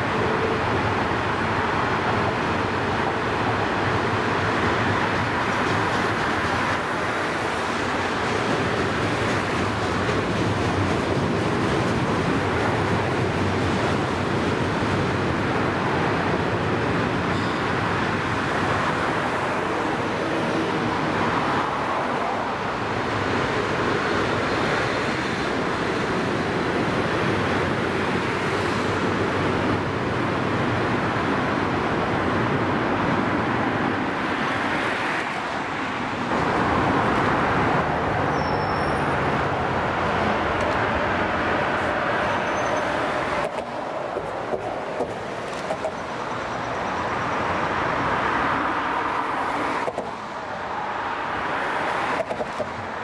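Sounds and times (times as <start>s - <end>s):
freight train rolling past: 0.0s - 51.5s.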